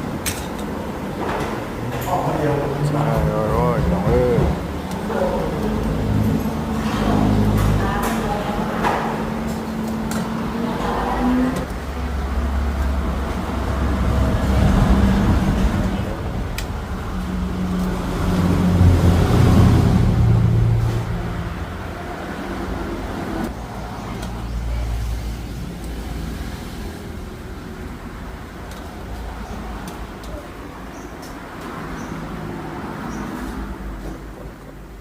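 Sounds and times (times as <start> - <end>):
passing motor vehicles: 0.0 - 35.0.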